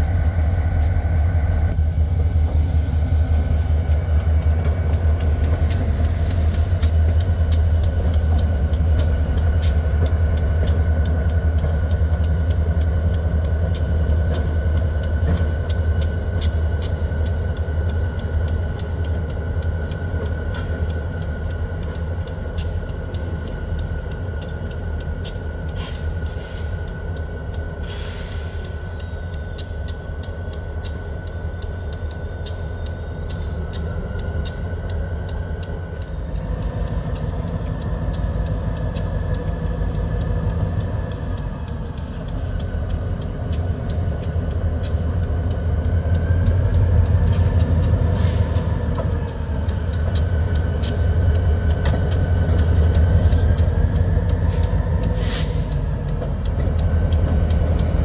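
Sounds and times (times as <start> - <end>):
diesel locomotive engine rumble: 0.0 - 58.0
high whine: 0.0 - 58.0.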